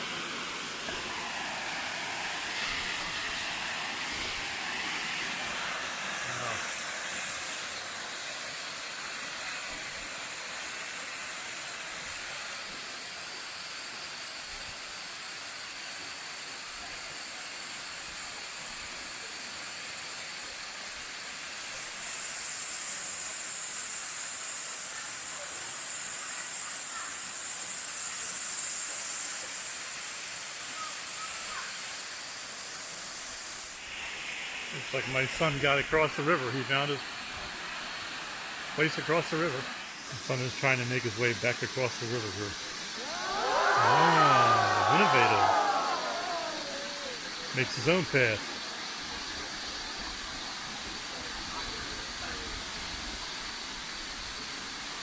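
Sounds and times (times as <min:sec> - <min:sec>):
waterfall rushing hiss: 0:00.0 - 0:55.0.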